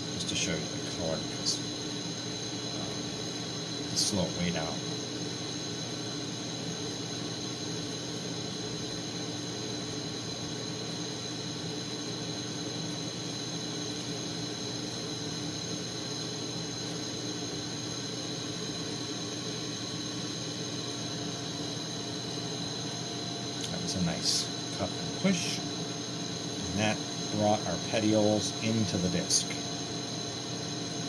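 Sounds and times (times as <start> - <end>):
torch burning with hiss: 0.0 - 31.0.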